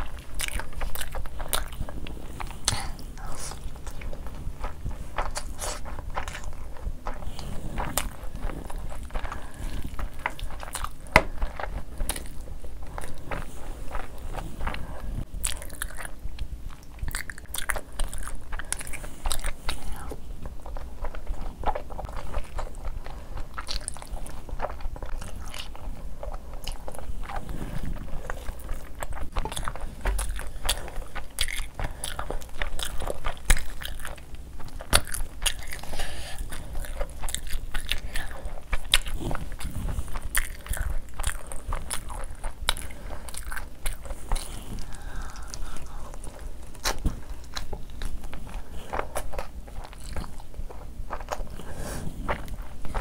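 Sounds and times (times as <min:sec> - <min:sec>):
wet chewing and mouth sounds: 0:00.0 - 0:53.0.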